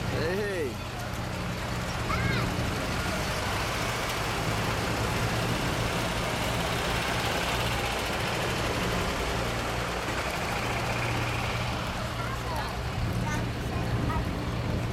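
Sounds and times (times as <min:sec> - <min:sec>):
vehicle engine idling: 0:00.0 - 0:14.9.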